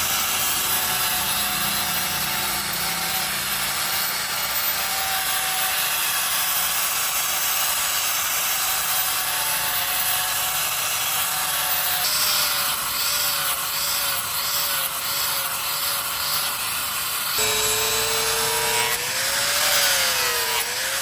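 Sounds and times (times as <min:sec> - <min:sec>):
power tool running with whine: 0:00.0 - 0:21.0.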